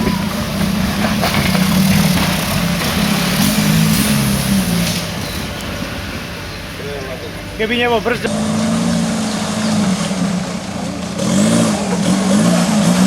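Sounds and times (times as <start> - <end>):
diesel engine working under load: 0.0 - 13.0.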